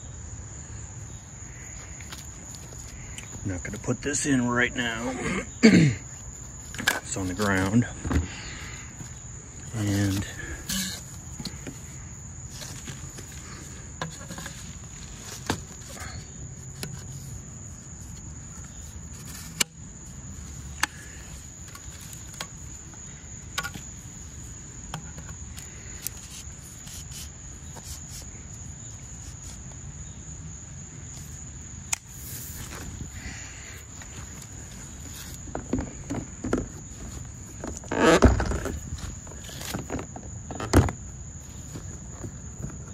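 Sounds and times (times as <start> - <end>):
insect trilling: 0.0 - 41.9.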